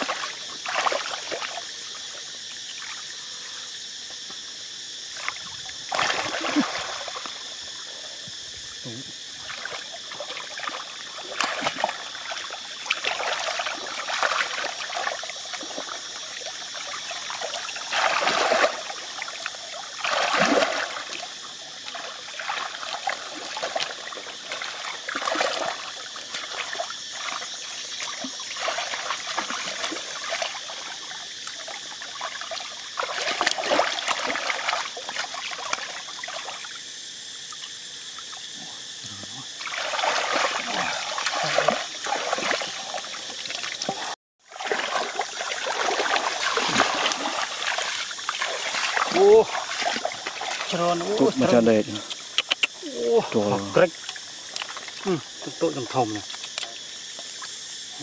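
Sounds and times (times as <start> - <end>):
muddy water sloshing and splashing: 0.0 - 3.6, 4.3 - 38.6, 39.2 - 58.0.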